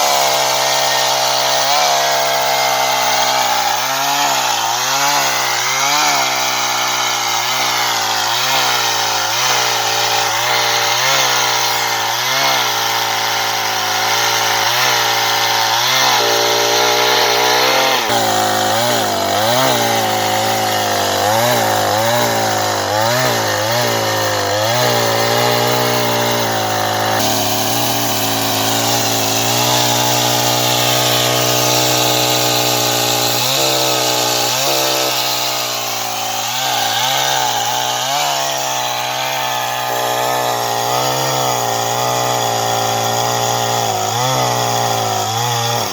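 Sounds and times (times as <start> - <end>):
chainsaw cutting logs: 0.0 - 45.9.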